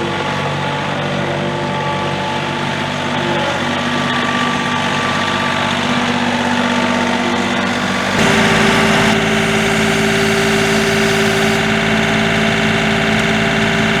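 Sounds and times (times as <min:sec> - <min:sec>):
diesel tractor engine running: 0:00.0 - 0:14.0.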